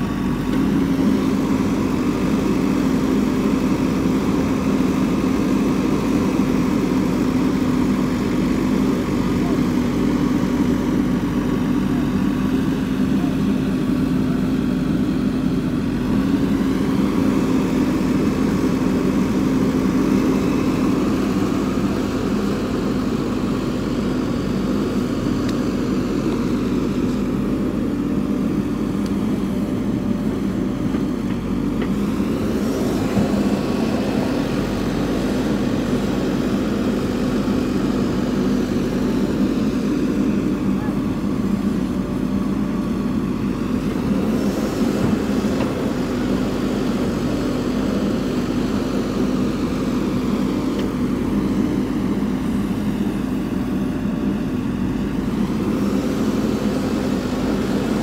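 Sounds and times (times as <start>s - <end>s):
diesel engine running under work: 0.0s - 58.0s.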